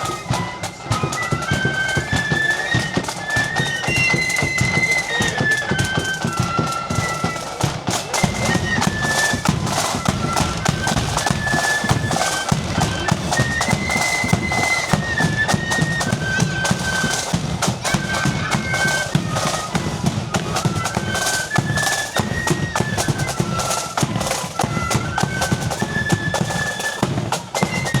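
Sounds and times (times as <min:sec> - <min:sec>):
marching flute melody: 0:00.0 - 0:28.0.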